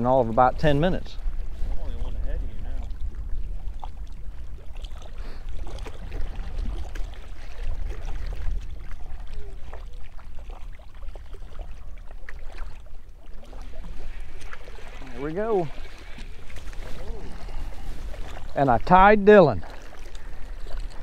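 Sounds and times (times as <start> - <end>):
small waves lapping: 0.0 - 21.0
wind buffeting microphone: 0.0 - 21.0.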